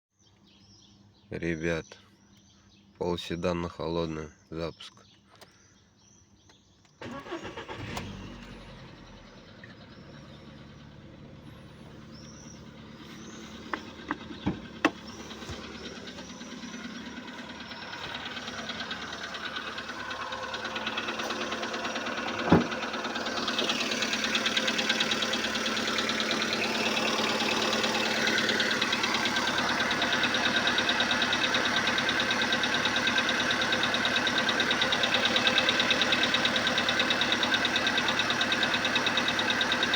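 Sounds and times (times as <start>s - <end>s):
car engine starting and idling: 7.0s - 39.9s.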